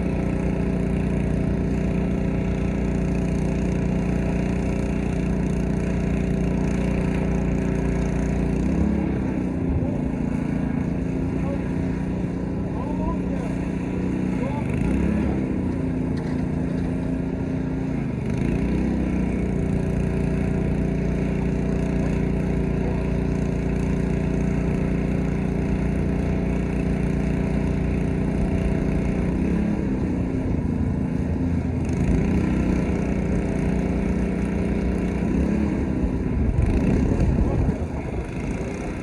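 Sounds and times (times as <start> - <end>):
pressure washer engine running: 0.0 - 39.0.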